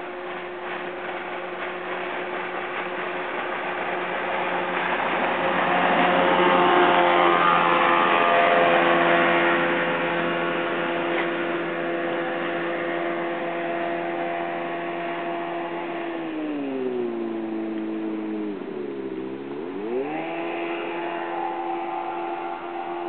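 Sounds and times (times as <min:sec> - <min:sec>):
jet boat engine running: 0:00.0 - 0:23.0.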